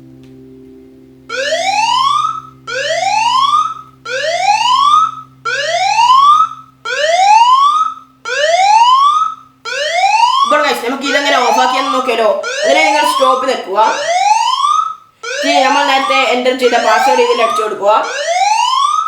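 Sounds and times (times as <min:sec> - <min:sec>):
phone alarm siren whooping: 0:01.3 - 0:19.0.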